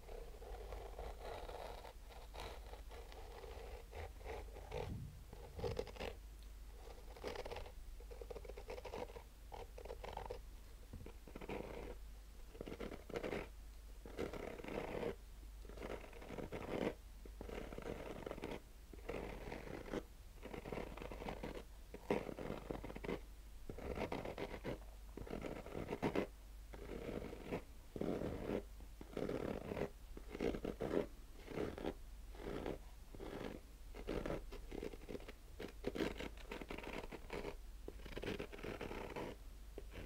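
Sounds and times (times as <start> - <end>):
fingernails scratching fabric: 0.0 - 40.0.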